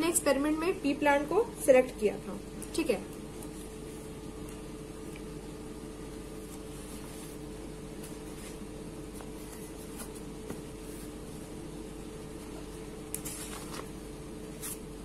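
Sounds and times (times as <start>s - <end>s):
low hum of room equipment: 0.0s - 15.0s.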